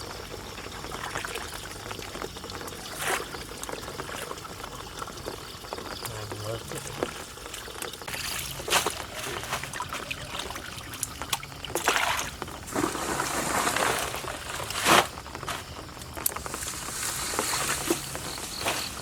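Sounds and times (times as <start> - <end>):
water splashing and trickling: 0.0 - 19.0.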